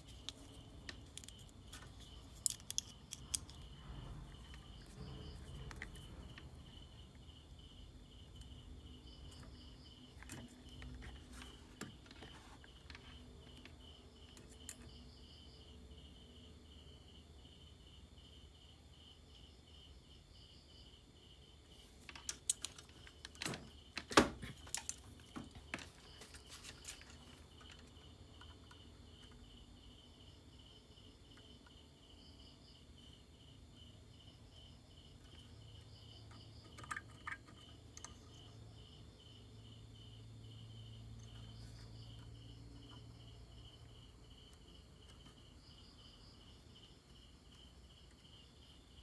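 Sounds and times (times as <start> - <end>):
insect chirping: 0.0 - 49.0.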